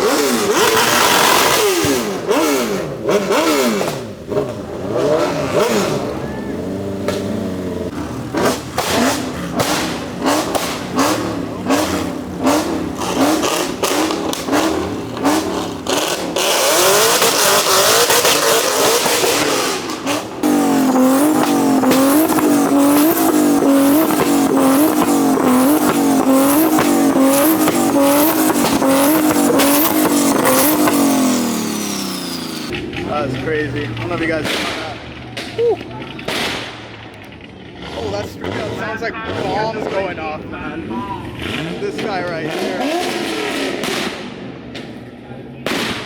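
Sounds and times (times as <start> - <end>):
car engine revving: 0.0 - 46.0
exhaust pops: 0.0 - 46.0
tire screech: 0.0 - 46.0.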